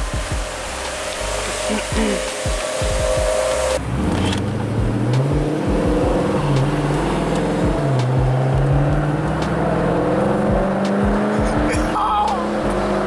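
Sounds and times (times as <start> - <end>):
car engine revving: 0.0 - 13.0
road noise: 0.0 - 13.0
steady idling hum: 0.0 - 13.0.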